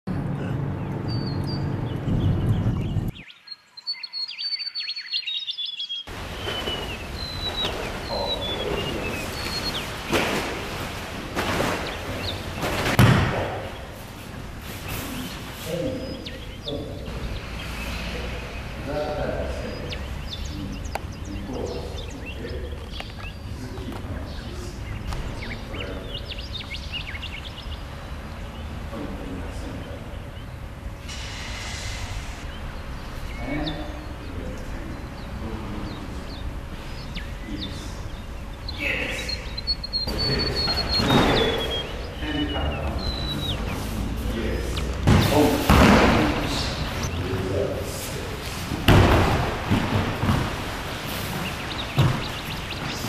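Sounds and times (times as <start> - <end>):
birds whistling and chirping: 0.3 - 13.0, 14.6 - 28.8, 29.5 - 48.6, 50.2 - 53.0.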